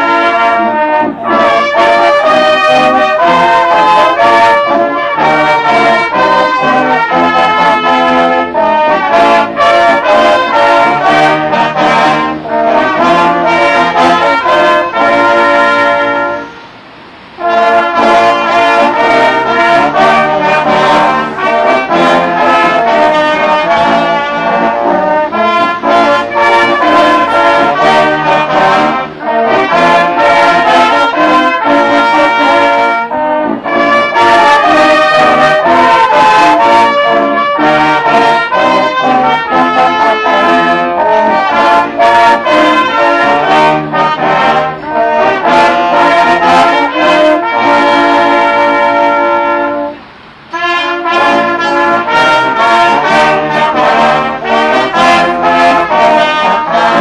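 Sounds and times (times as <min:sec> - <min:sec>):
brass ensemble playing: 0:00.0 - 0:57.0.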